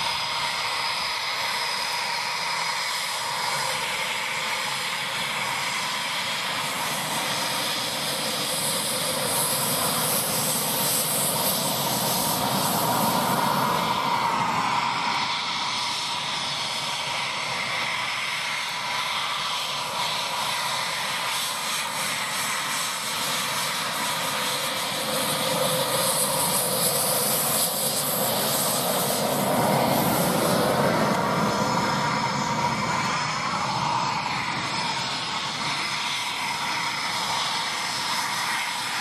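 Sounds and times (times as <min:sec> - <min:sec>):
jet engines rushing and whining: 0:00.0 - 0:39.0.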